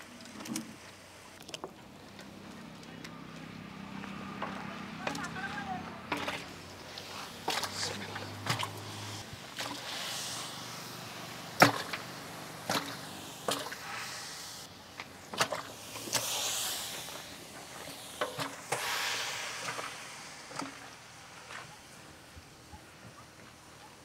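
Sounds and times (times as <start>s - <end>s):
oil hissing: 3.8s - 24.0s.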